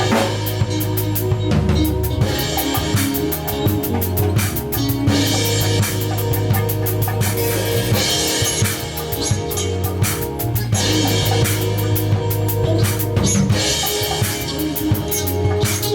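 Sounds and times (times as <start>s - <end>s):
drum kit beat: 0.0s - 15.9s
held chords: 0.0s - 15.9s
low bass line: 0.0s - 15.9s.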